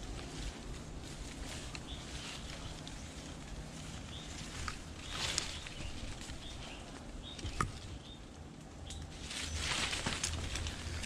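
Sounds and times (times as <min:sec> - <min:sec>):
footsteps in undergrowth: 0:00.0 - 0:11.0
rustling in undergrowth: 0:00.0 - 0:11.0.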